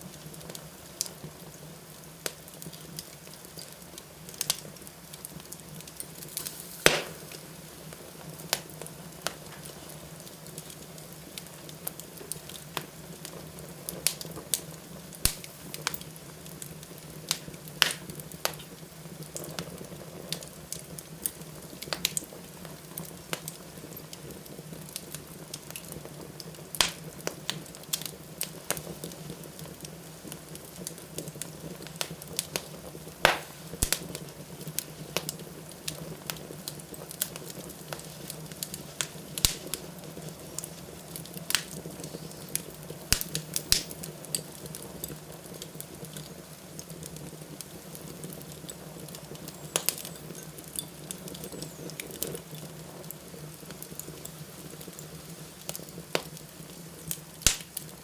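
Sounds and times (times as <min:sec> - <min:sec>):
fire popping: 0:00.0 - 0:58.0
wood fire crackling: 0:00.0 - 0:58.0.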